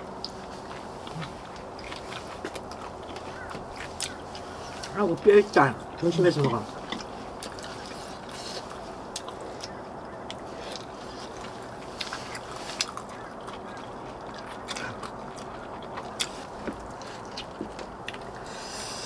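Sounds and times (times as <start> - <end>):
chewing and biting food: 0.0 - 19.0
steady low hiss: 0.0 - 19.0.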